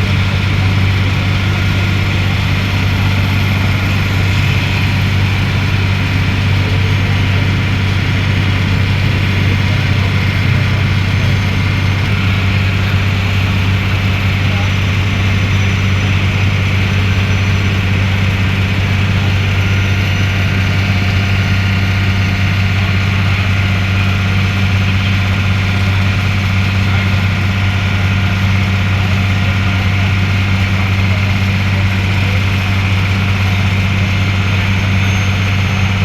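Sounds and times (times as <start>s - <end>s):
ferry engine droning: 0.0s - 36.0s.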